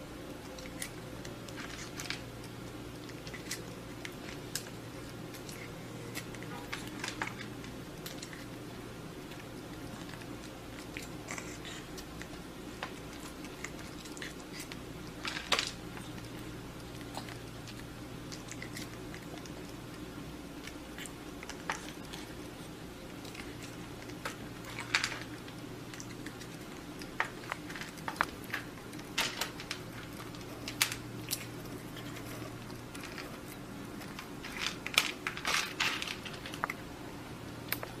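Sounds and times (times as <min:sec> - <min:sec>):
cat eating food crunching: 0:00.0 - 0:38.0
low room hum: 0:00.0 - 0:38.0.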